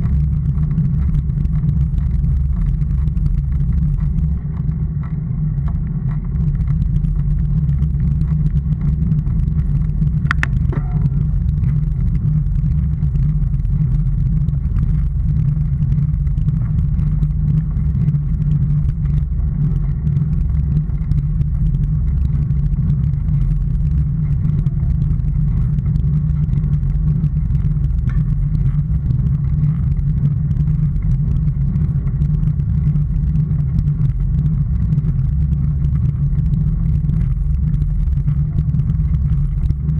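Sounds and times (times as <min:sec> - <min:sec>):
vehicle rumbling on road: 0:00.0 - 0:39.9.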